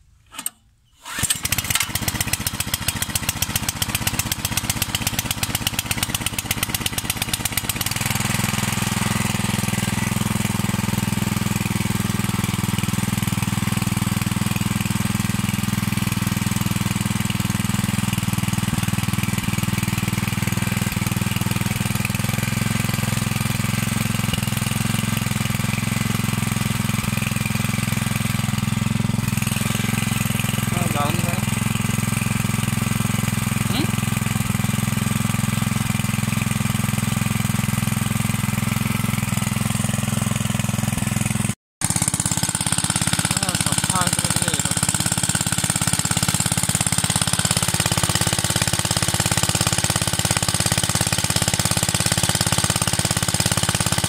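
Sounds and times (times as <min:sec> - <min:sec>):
petrol engine starting and running: 0:00.2 - 0:54.0.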